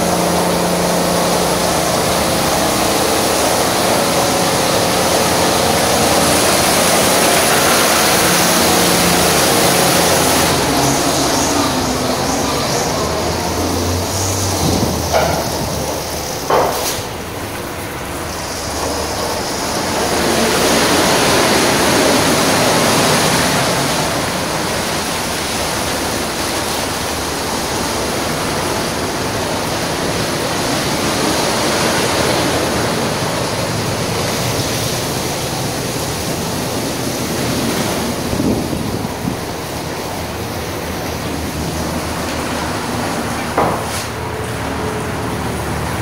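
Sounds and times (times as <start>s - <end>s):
water spray: 0.0s - 46.0s.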